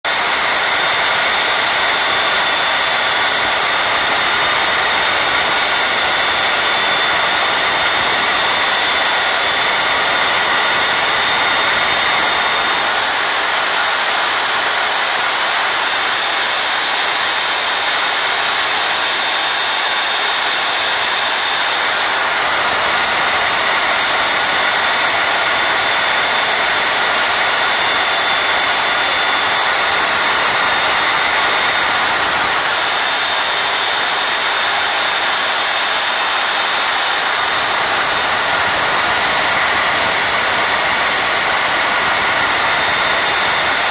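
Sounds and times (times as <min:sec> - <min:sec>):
angle grinder sanding: 0:00.0 - 0:43.9.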